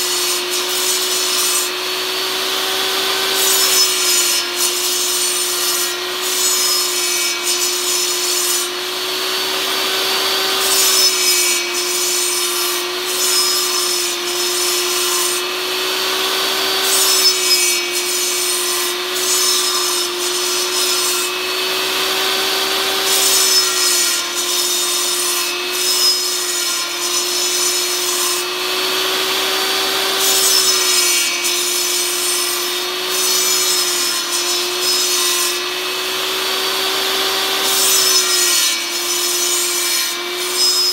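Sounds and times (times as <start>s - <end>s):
saw blade rasping through wood: 0.0s - 40.9s
table saw running: 0.0s - 40.9s.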